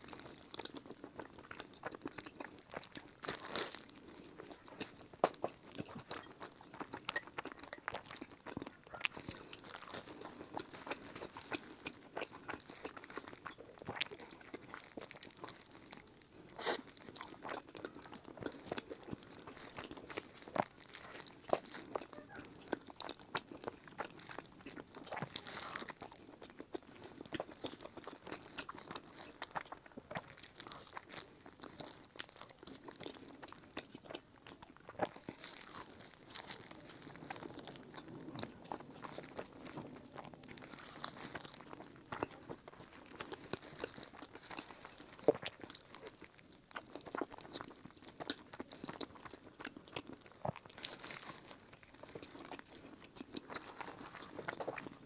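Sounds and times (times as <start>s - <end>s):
chewing and biting pastries: 0.0s - 55.0s.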